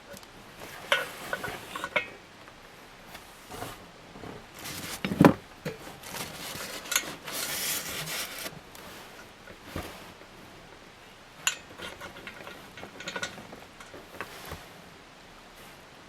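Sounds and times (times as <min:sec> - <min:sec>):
faint rustling: 0:00.1 - 0:16.0.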